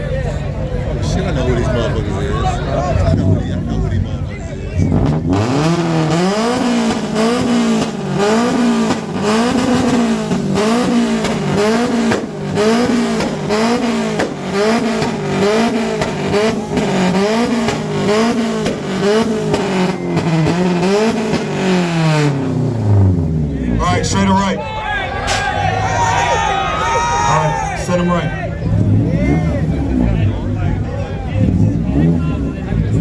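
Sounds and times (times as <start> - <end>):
car engine revving loud exhaust: 0.4 - 24.4, 27.3 - 33.0.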